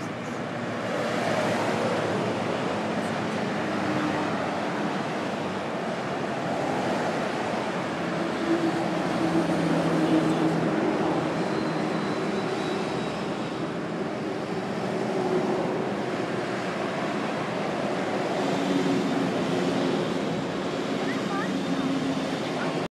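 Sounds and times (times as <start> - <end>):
freeway traffic passing: 0.0 - 22.9.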